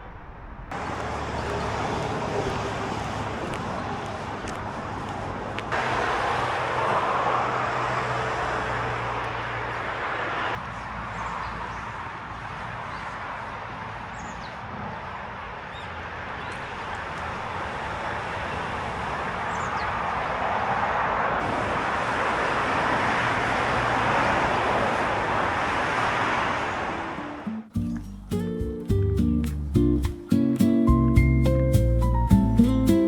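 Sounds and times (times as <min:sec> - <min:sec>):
vehicle passing on road: 0:00.0 - 0:27.7.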